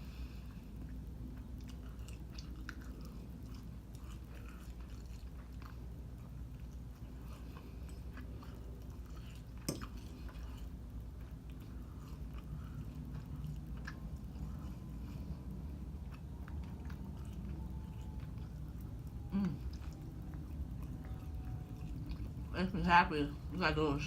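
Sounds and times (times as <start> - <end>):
person chewing food: 0.0 - 22.6
steady low hum: 0.0 - 24.0.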